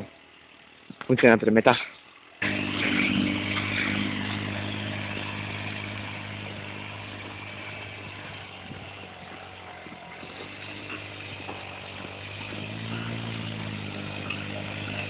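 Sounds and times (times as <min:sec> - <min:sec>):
quad bike engine running: 0:02.2 - 0:15.0.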